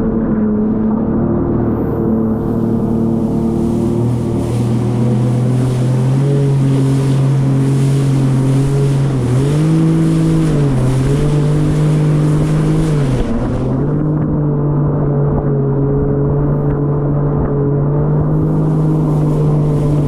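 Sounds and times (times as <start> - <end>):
jet ski engine revving: 0.0 - 20.0.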